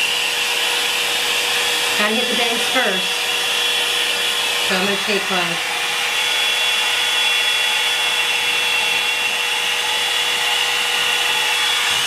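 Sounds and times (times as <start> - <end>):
hair dryer air rush and whine: 0.0 - 12.0.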